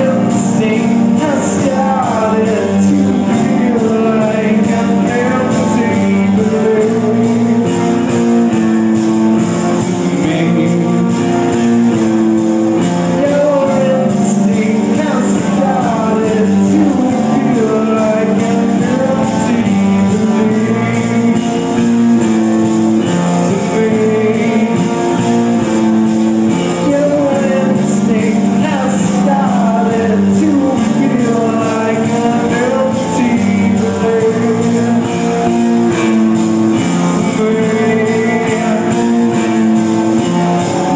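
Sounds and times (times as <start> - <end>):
live rock band playing: 0.0 - 40.9
person singing: 0.0 - 40.9.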